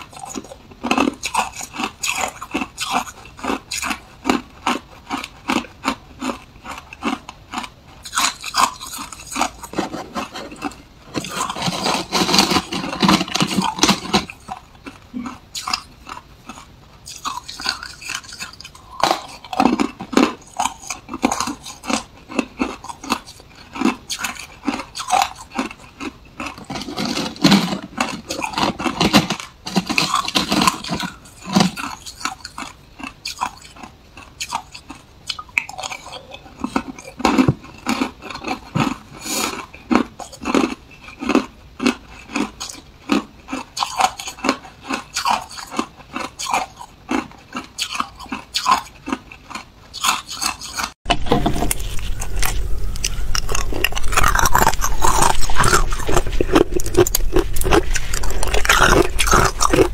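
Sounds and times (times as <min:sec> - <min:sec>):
chewing: 0:00.0 - 0:59.9
ice crunching in mouth: 0:00.0 - 0:59.9.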